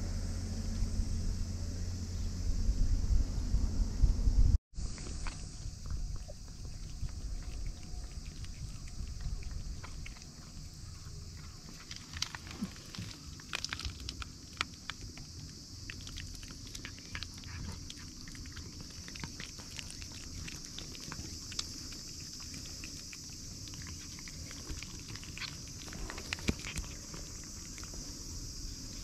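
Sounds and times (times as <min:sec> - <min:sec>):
cats licking wet clicks: 0:05.0 - 0:28.8.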